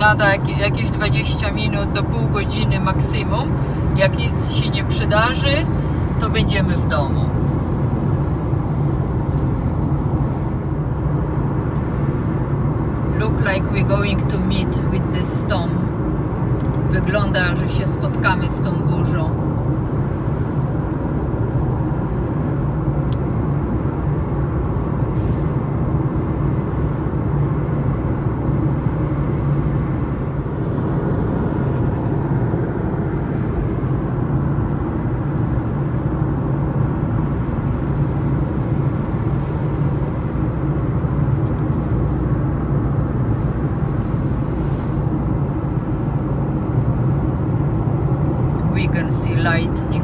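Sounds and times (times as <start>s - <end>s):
car road and engine noise: 0.0s - 50.0s.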